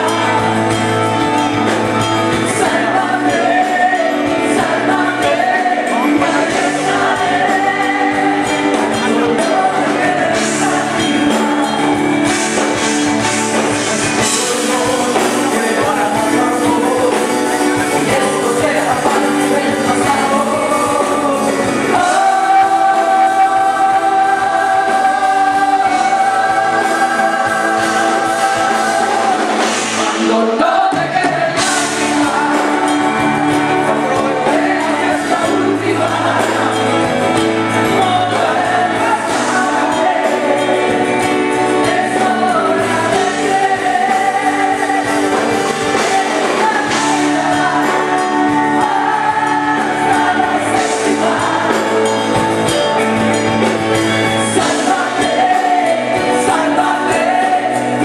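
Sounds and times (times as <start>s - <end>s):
backing singers: 0.0s - 58.0s
pop ballad band over loudspeakers: 0.0s - 58.0s
woman singing lead vocal: 0.0s - 58.0s.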